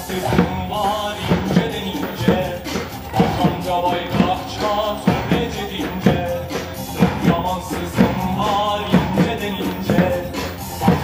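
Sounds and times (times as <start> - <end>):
upbeat music with heavy drums: 0.0 - 11.0.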